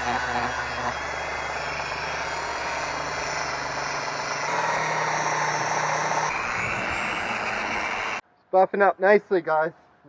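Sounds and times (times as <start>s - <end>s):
power buffer motor whine: 0.0s - 8.2s.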